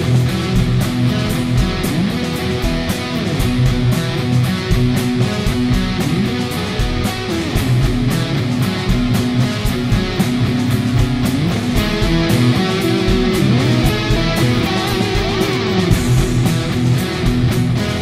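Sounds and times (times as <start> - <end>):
guitar music with steady beat: 0.0 - 18.0.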